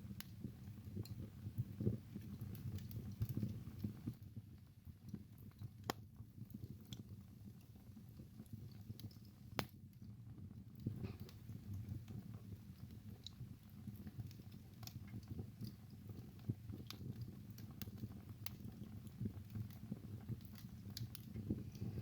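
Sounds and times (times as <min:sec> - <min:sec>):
fire crackling: 0:00.0 - 0:22.0
low rumble of flames: 0:00.0 - 0:22.0.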